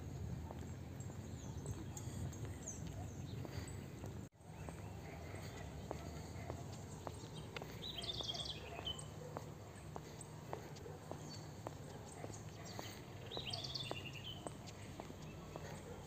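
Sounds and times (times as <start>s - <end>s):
footsteps on a dirt road: 0.0s - 16.0s
bird singing: 0.5s - 16.0s.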